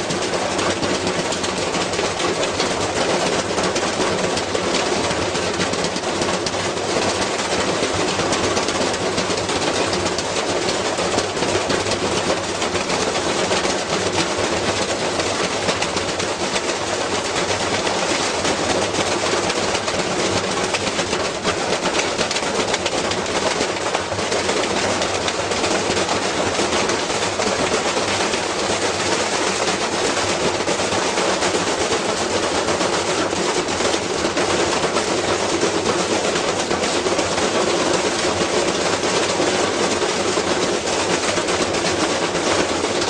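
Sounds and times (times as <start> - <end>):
washing machine rattling and banging: 0.0 - 43.0.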